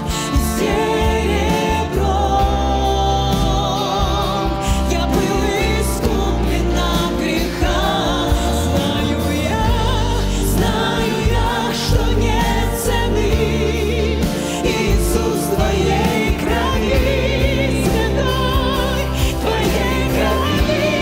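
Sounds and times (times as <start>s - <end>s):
electric bass: 0.0s - 21.0s
guitars: 0.0s - 21.0s
keyboard: 0.0s - 21.0s
women singing: 0.0s - 21.0s.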